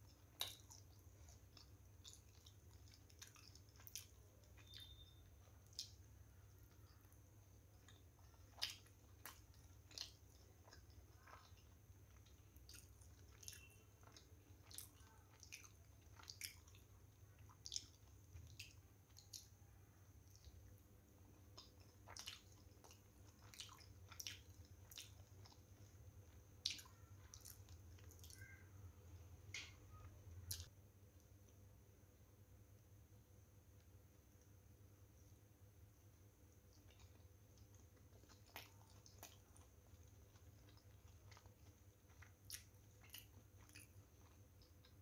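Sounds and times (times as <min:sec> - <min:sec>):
wet chewing and lip smacks: 0:00.0 - 0:28.7, 0:29.5 - 0:30.7, 0:36.5 - 0:45.0
faint low hum: 0:00.0 - 0:45.0.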